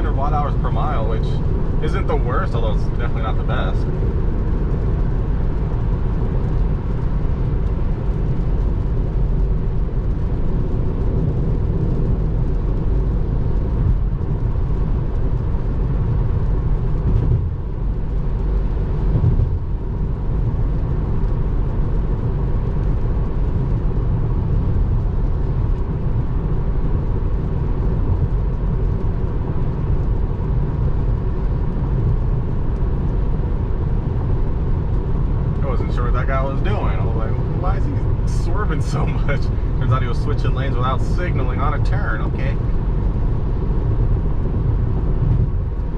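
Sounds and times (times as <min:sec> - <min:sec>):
road and tyre noise in car: 0:00.0 - 0:45.9.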